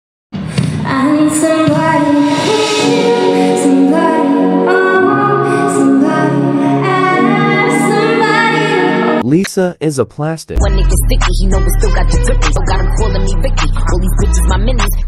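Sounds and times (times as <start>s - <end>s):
backing track music: 0.4s - 9.6s, 10.6s - 15.0s.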